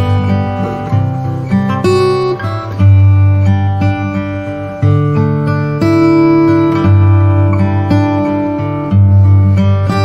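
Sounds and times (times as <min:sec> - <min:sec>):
acoustic guitar playing chords: 0:00.0 - 0:10.0.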